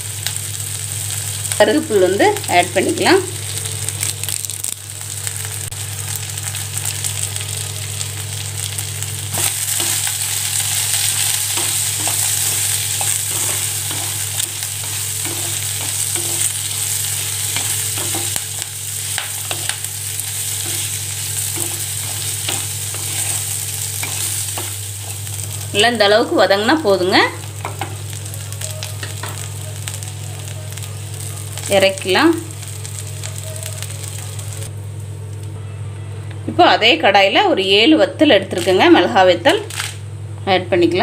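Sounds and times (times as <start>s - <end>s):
food frying with high sizzle: 0.0s - 35.5s
low hum: 0.2s - 39.5s.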